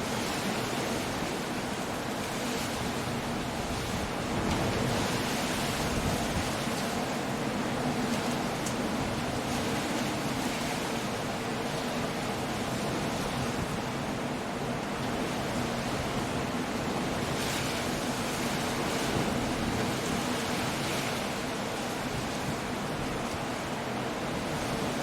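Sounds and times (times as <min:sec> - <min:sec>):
breaking waves: 0:00.0 - 0:25.0
wind: 0:00.0 - 0:25.0.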